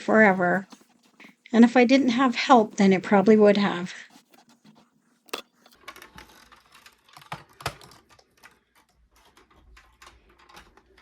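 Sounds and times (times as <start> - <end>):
faint clicks and taps: 0.2 - 11.0.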